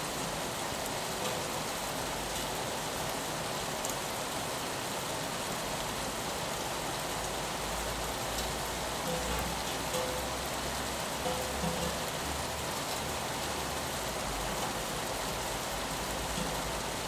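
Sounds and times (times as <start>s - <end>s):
rain on a window: 0.0s - 17.0s.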